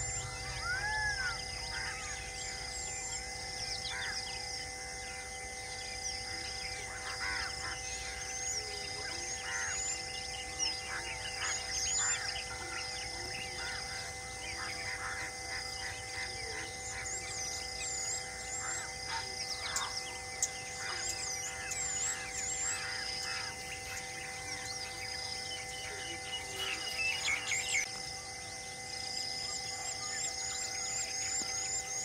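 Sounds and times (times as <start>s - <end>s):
birds chirping: 0.0s - 32.0s
insects: 0.0s - 32.0s
low steady hum: 0.0s - 32.0s.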